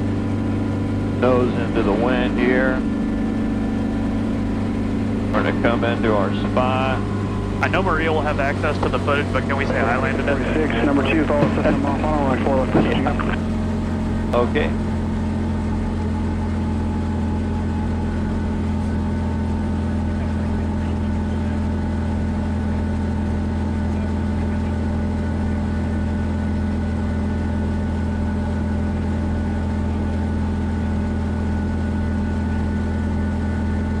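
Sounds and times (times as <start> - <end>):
helicopter engine and rotors humming: 0.0 - 34.0.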